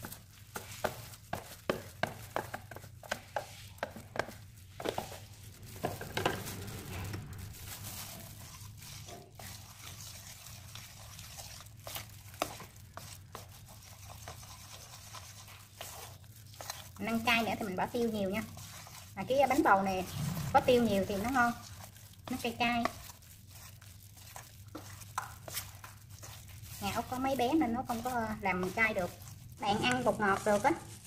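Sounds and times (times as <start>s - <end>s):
spoon stirring batter in bowl: 0.0s - 6.6s, 7.6s - 31.0s.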